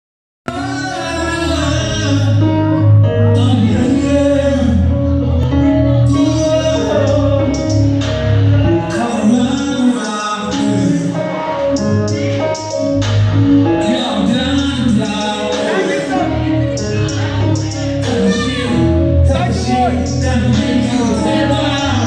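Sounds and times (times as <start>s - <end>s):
loud music with heavy bass: 0.4s - 22.0s
person singing: 0.5s - 22.0s.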